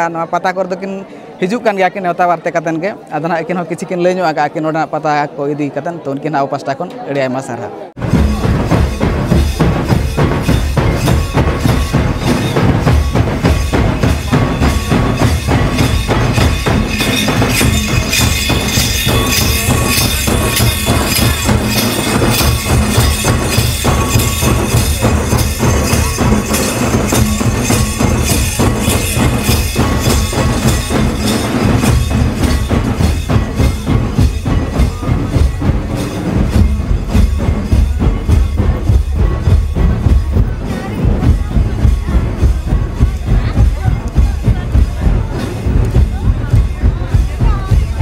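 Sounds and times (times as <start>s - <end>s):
hand drums beating fast rhythm: 8.0s - 48.0s.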